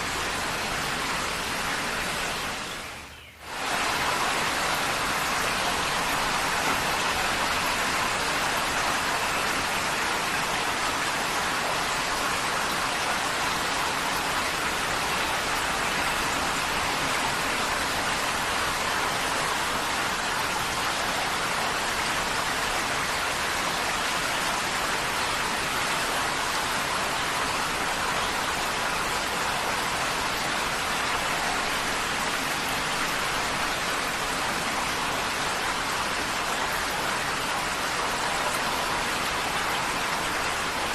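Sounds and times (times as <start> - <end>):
heavy rain on a tin roof: 0.0 - 2.8, 3.4 - 40.9.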